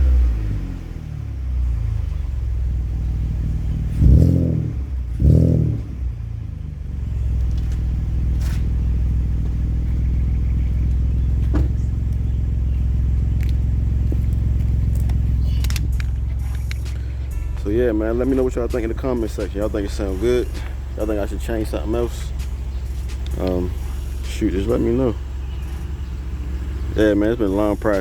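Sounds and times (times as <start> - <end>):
car engine idling: 0.0 - 28.0
car engine throttle blips: 0.0 - 28.0.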